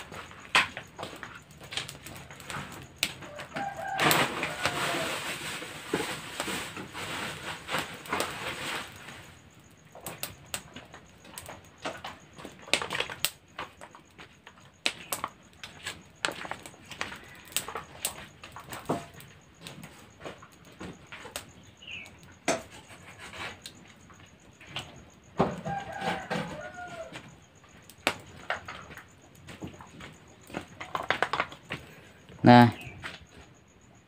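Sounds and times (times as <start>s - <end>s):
firewood crackling and popping: 0.0s - 34.0s.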